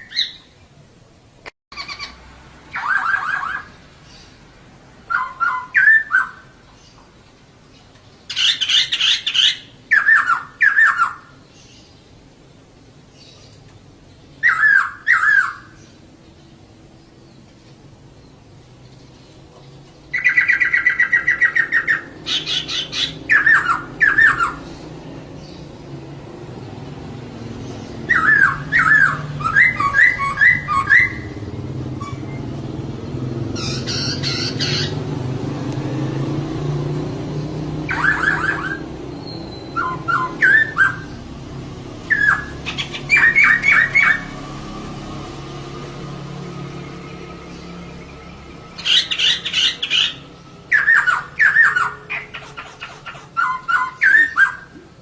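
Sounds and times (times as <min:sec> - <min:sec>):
bird calling rising chirps: 0:00.0 - 0:00.7, 0:01.7 - 0:04.4, 0:05.0 - 0:12.1, 0:13.2 - 0:16.3, 0:18.3 - 0:25.8, 0:27.4 - 0:35.2, 0:37.6 - 0:41.4, 0:42.0 - 0:45.3, 0:45.9 - 0:54.8.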